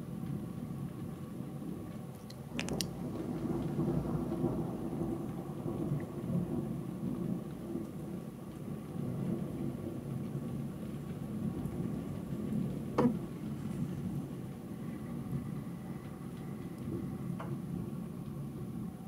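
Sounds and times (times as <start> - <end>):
thunder rumbling: 0.4 - 19.0.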